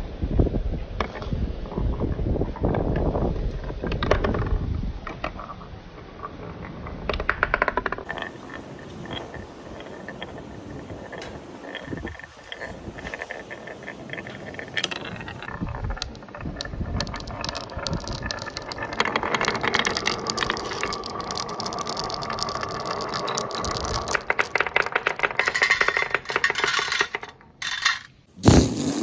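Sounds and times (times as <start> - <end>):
marbles rolling on wooden track: 1.0 - 29.0.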